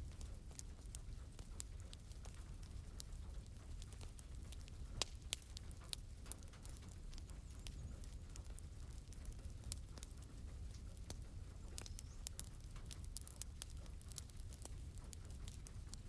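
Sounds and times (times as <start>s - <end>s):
rain pattering: 0.0s - 16.0s
wood fire crackling and popping: 0.0s - 16.0s.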